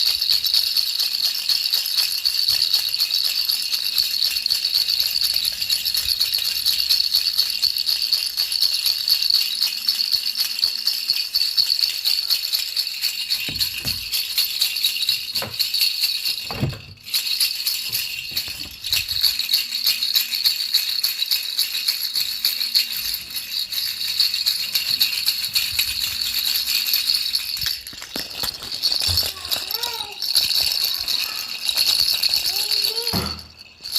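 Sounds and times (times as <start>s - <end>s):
baby rattle shaken: 0.0s - 33.9s.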